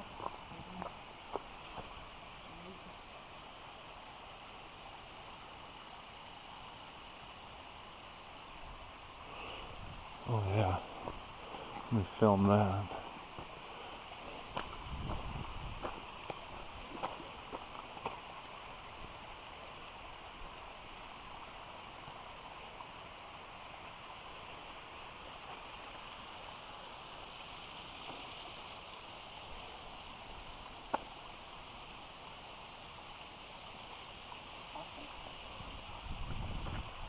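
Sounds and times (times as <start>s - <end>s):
creek water flowing: 0.0s - 37.0s.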